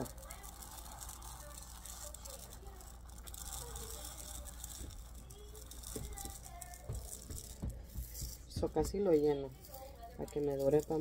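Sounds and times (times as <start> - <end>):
rattling clicks of grains: 0.0 - 11.0
rice pouring into plastic container: 0.0 - 11.0.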